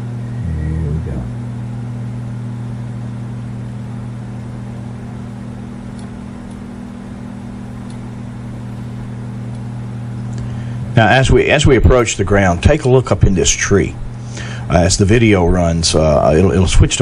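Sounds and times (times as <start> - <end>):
low hum of even tones: 0.0 - 17.0.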